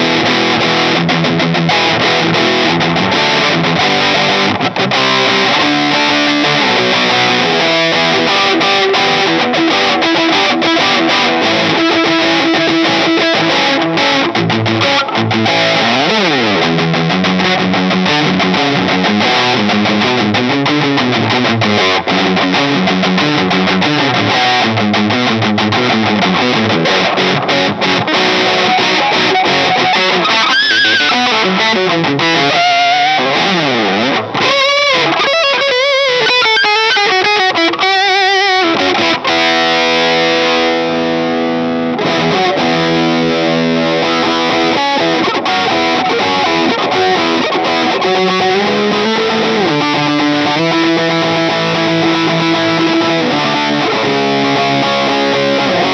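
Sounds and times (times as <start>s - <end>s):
distorted electric guitar solo: 0.0s - 55.9s.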